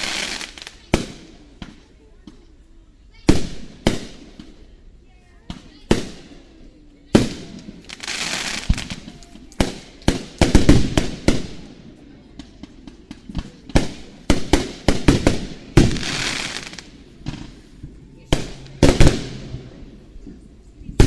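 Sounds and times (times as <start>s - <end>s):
fireworks crackling hiss: 0.0s - 21.0s.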